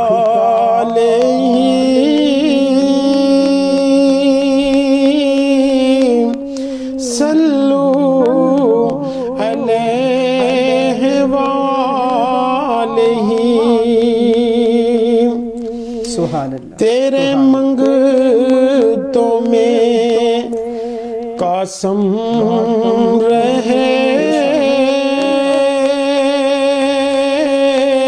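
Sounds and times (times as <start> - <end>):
man singing unaccompanied: 0.0 - 28.0.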